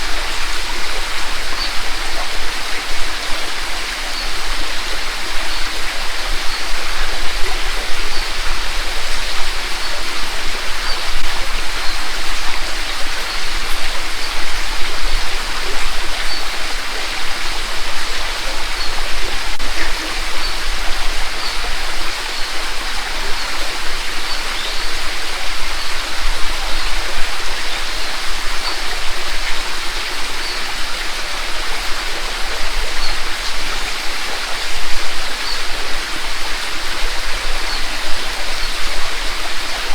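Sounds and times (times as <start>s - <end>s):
creek water babbling over rocks: 0.0s - 39.9s.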